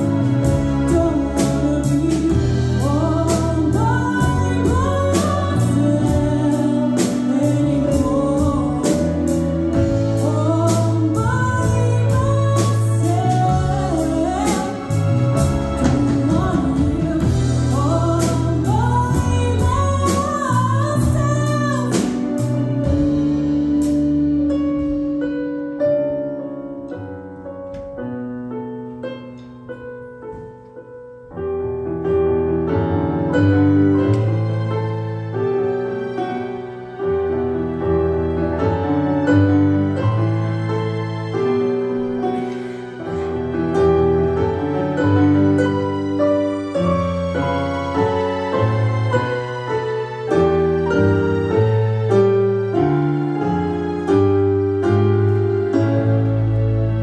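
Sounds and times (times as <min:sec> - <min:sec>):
live band playing soft rock: 0:00.0 - 0:26.9, 0:32.2 - 0:57.0.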